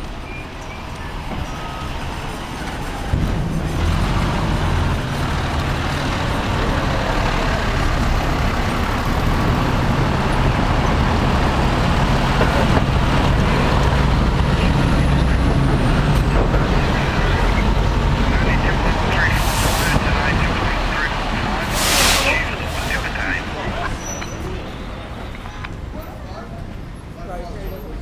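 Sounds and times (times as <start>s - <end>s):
heavy truck engine running: 0.0s - 25.4s
street noise: 0.0s - 28.0s.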